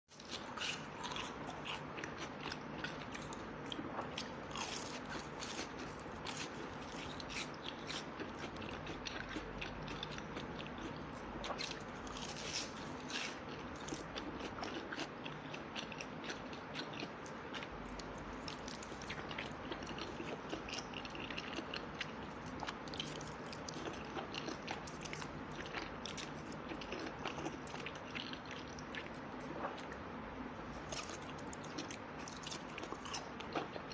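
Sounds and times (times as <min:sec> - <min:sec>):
crunchy biting and chewing: 0:00.1 - 0:30.0, 0:30.8 - 0:33.9.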